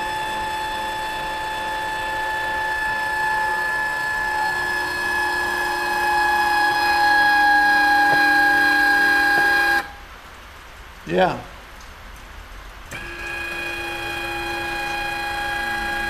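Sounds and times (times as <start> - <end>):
electric motor whining: 0.0 - 9.9, 12.9 - 16.0.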